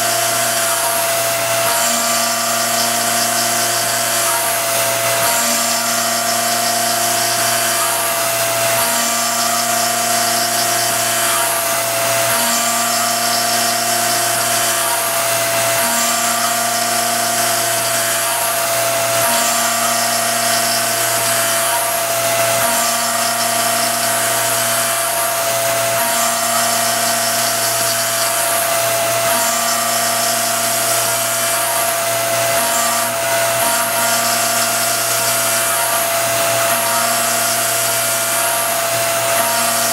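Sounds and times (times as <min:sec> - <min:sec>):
end mill cutting metal: 0:00.0 - 0:39.9
milling machine spindle whine: 0:00.0 - 0:39.9.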